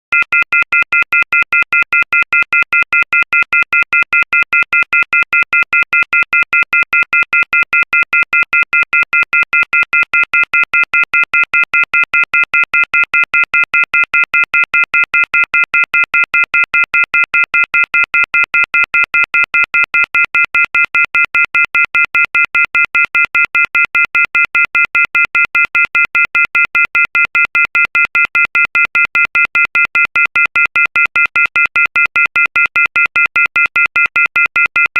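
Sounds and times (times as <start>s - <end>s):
telephone off-hook warning tone: 0.2s - 34.9s.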